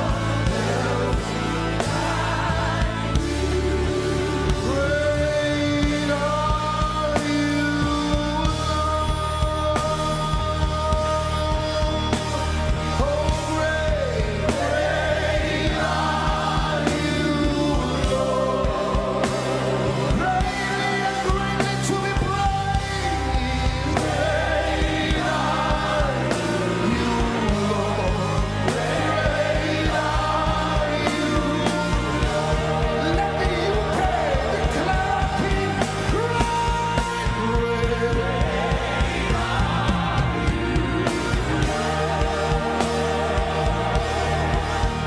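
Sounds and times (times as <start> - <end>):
backing singers: 0.0 - 45.0
band playing worship music: 0.0 - 45.0
man singing lead: 0.0 - 45.0.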